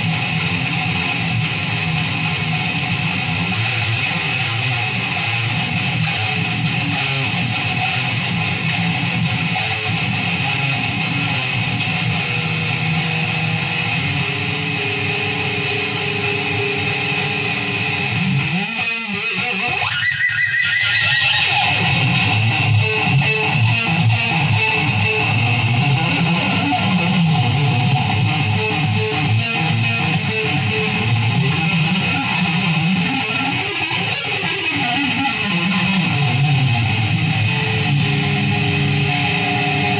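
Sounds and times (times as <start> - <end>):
guitar strummed: 0.0 - 39.9.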